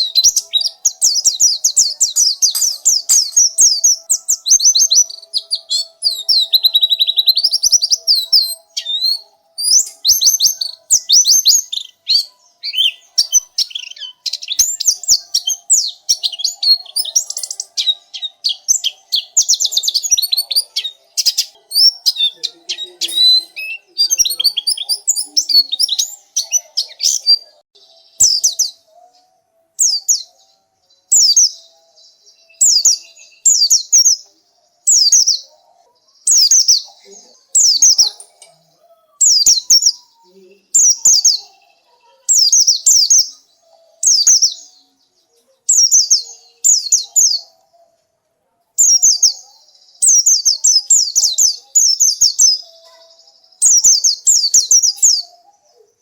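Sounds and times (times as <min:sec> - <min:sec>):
bird twittering song: 0:00.0 - 0:48.0, 0:48.8 - 0:56.0.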